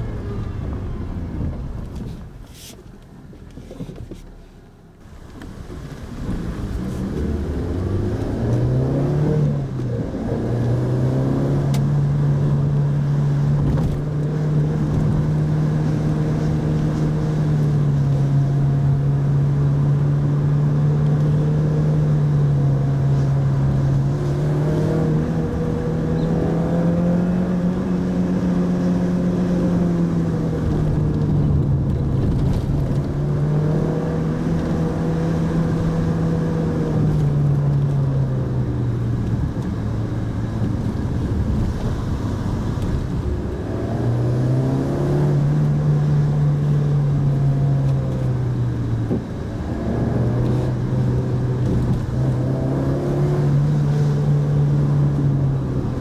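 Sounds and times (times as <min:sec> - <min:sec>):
small car engine accelerating: 0:00.0 - 0:02.3, 0:05.5 - 0:56.0.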